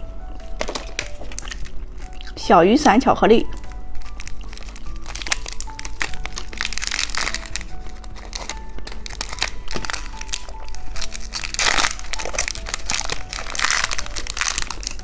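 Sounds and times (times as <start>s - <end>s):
candy wrapper crinkling: 0.0s - 2.4s, 3.3s - 15.0s
soft background music: 0.0s - 15.0s.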